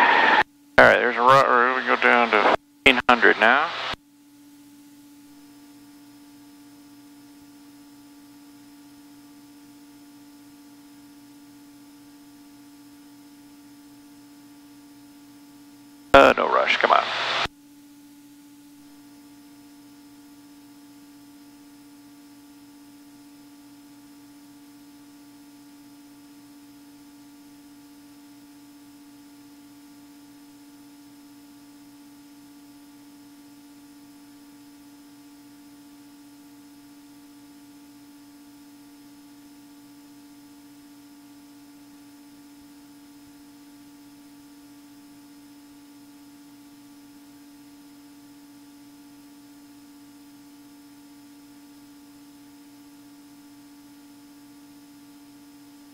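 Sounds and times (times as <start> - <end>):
faint electrical hum: 0.0 - 55.9.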